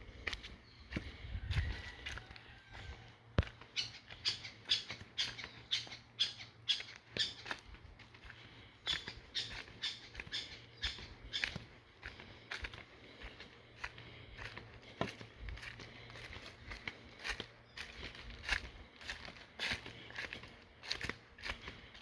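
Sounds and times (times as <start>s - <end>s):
footsteps on dry forest trail: 0.0s - 22.0s.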